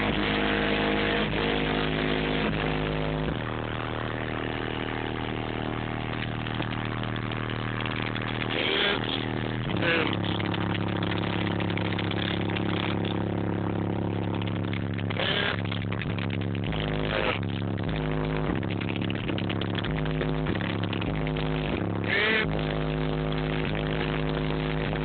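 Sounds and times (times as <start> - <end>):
deep bass from rap music: 0.0 - 25.0.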